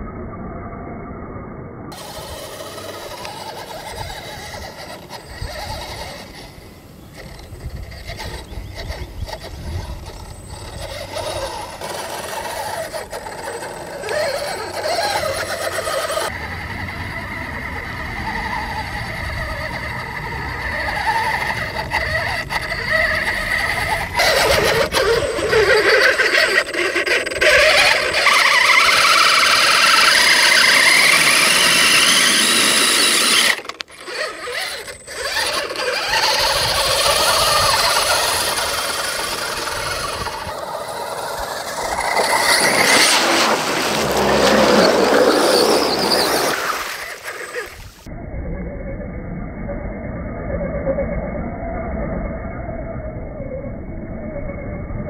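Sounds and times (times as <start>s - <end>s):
electric toy truck motor whining: 1.9s - 55.0s.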